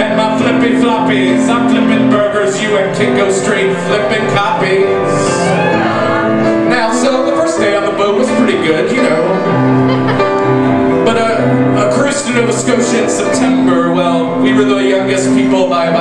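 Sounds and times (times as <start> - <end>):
man singing: 0.0 - 5.6, 6.5 - 9.6, 11.0 - 16.0
live piano music: 0.0 - 16.0.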